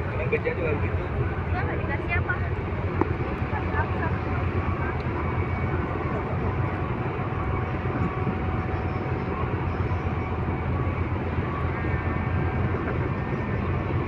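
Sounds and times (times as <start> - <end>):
ferry engines droning: 0.0 - 14.0.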